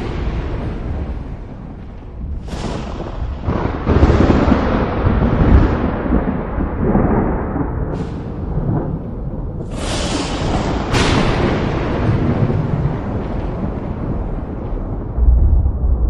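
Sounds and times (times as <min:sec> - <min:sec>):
thunder rolling: 0:00.0 - 0:16.0.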